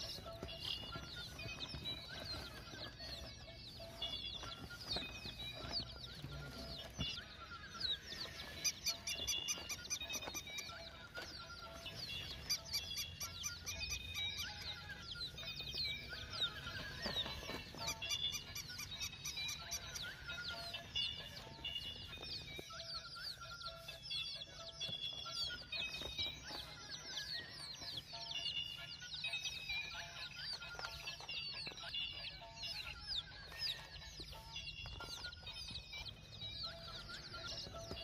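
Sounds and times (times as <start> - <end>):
poultry chirping and clucking: 0.0 - 38.0.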